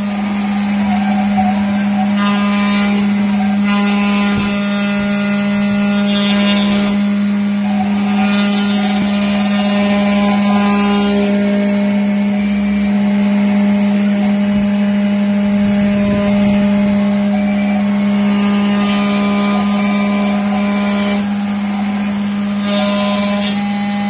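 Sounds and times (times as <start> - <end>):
router bit cutting wood: 0.0 - 24.0
router spindle humming: 0.0 - 24.0.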